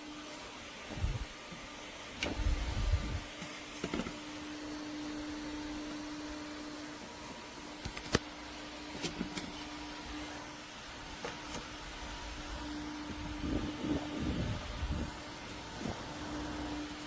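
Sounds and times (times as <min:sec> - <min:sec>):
small fan humming and whirring: 0:00.0 - 0:17.0.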